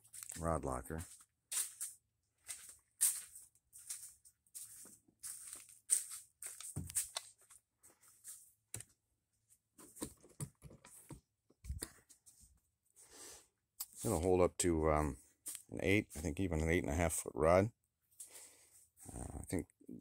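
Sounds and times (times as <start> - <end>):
handheld camera scuffs and rustles: 0.0 - 17.2, 18.1 - 19.1.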